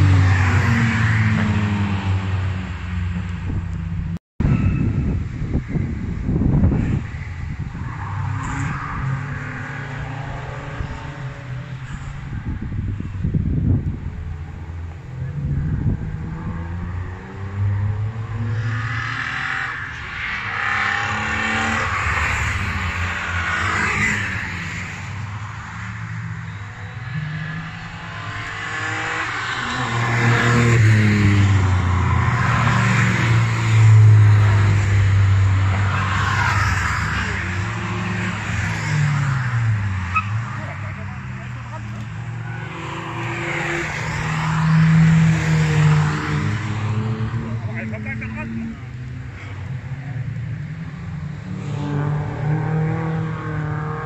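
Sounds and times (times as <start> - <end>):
race cars passing at speed: 0.0 - 54.0.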